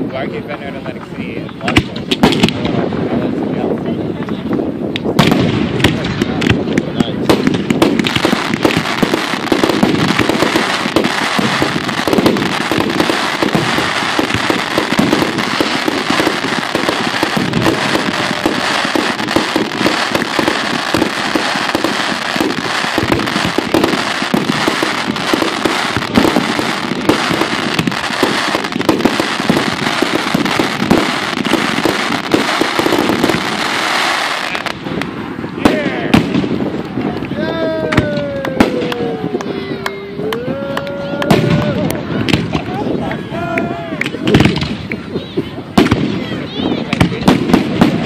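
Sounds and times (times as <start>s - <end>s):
fireworks booms: 0.0s - 48.0s
fireworks crackling and popping: 0.0s - 48.0s.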